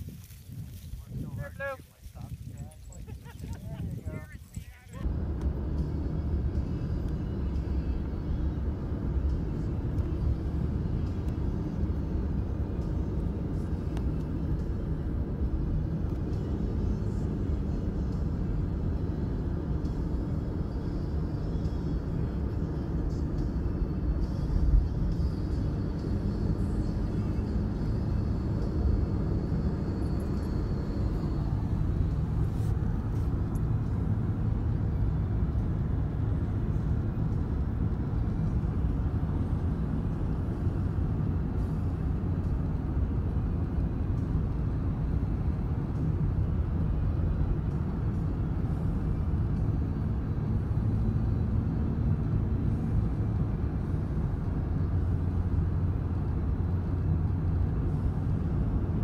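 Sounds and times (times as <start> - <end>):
road and engine rumble in car: 0.0 - 59.0.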